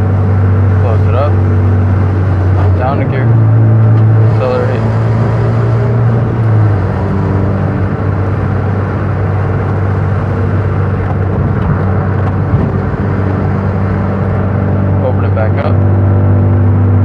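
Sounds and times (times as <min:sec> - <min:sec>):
car engine deep drone: 0:00.0 - 0:17.0.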